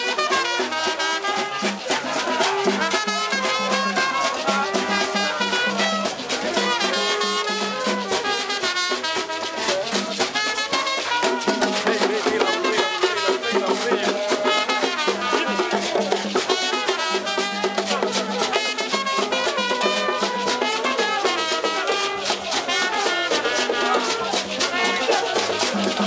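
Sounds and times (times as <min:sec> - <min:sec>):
horns and drums playing: 0:00.0 - 0:26.0
steady percussion beat: 0:00.0 - 0:26.0.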